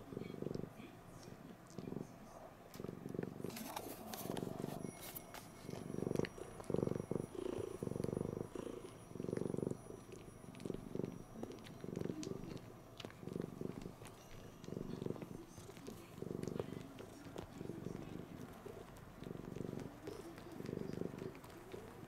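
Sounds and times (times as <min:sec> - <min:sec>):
cat purring loudly: 0:00.0 - 0:22.0.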